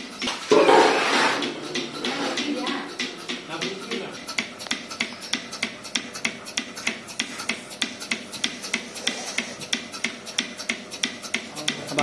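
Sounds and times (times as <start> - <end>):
milking pulsator clicking and hissing: 0.0 - 12.0.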